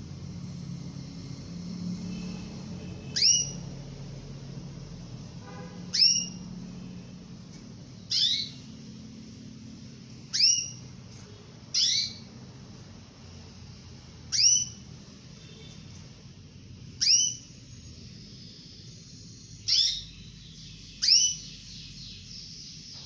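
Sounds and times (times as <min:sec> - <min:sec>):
canary calls: 0:00.1 - 0:22.7.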